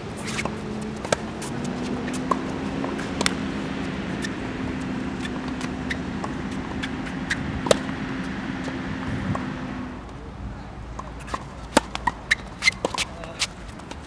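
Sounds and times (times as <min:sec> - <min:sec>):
outdoor background hum: 0:00.0 - 0:14.0
tennis racket striking ball: 0:00.1 - 0:09.7, 0:11.0 - 0:13.9.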